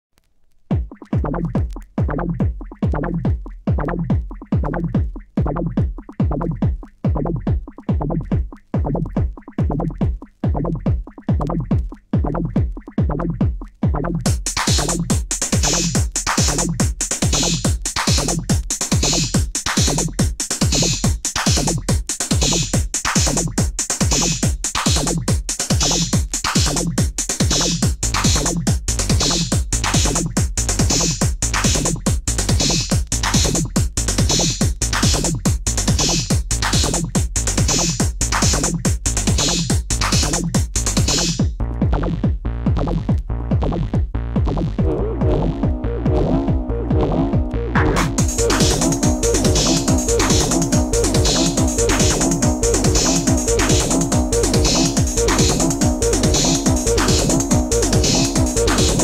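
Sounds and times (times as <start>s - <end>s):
drum machine kick drum: 0.7s - 59.0s.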